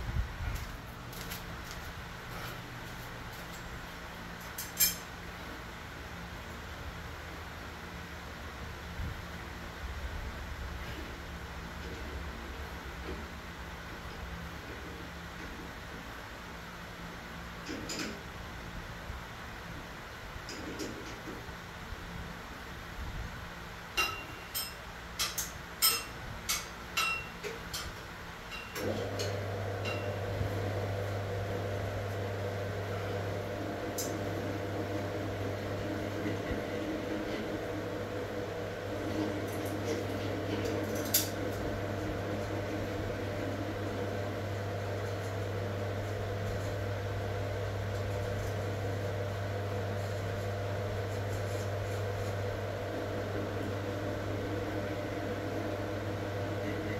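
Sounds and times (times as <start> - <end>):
steady mechanical hum: 0.0 - 56.9.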